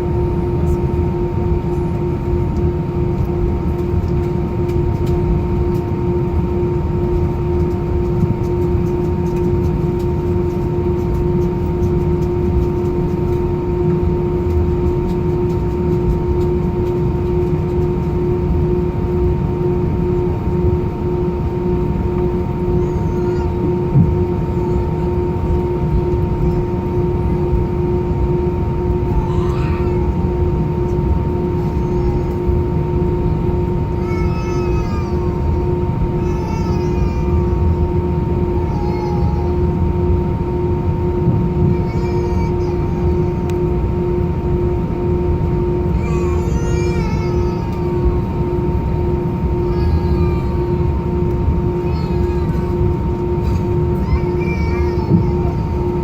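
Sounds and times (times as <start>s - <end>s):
aircraft engine whine: 0.0s - 56.0s
low cabin rumble: 0.0s - 56.0s.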